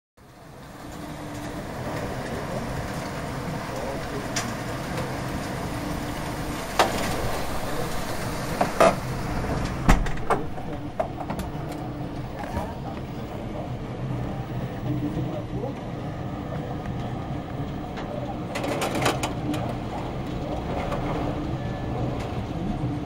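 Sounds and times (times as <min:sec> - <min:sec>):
heavy hail and rain: 0:00.2 - 0:23.0.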